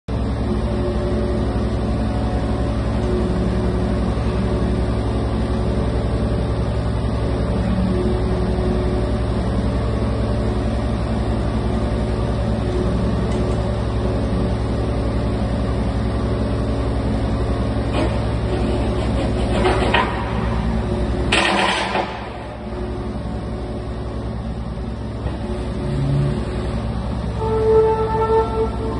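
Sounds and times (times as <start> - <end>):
excavator diesel engine running: 0.1 - 28.9
hydraulics hum shifting pitch: 0.1 - 28.9.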